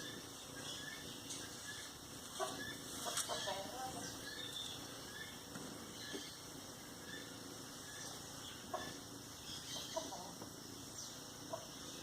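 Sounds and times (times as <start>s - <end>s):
background hiss: 0.0s - 12.0s
faint bird chirps: 0.0s - 12.0s.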